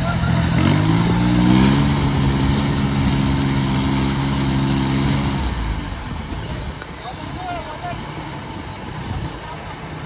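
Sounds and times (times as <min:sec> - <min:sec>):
diesel tractor engines under load: 0:00.0 - 0:10.0.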